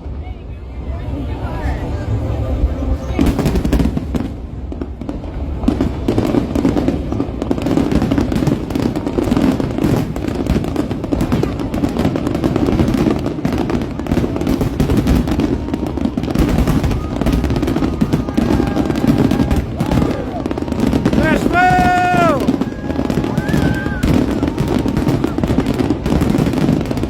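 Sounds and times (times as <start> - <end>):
fireworks bangs and booms: 3.0 - 27.0.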